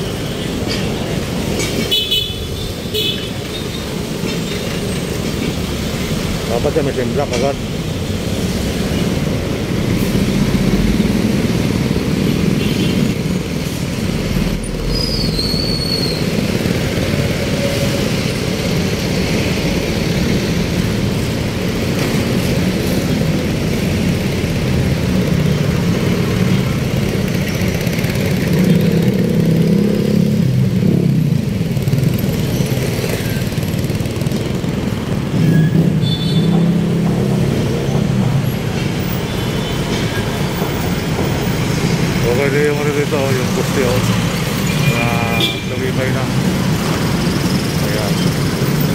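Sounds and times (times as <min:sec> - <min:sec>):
car engines passing: 0:00.0 - 0:48.9
motorcycle engines passing: 0:00.0 - 0:48.9.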